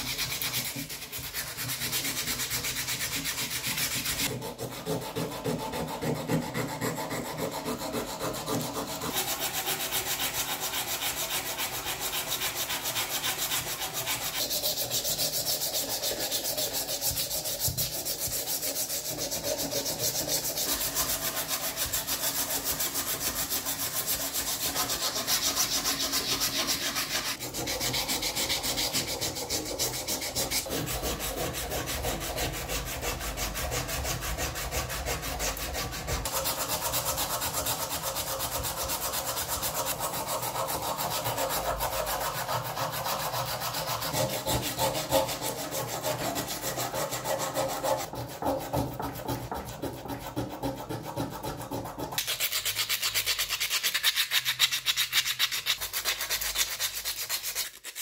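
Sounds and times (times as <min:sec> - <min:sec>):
filing and sanding metal: 0:00.0 - 0:58.0.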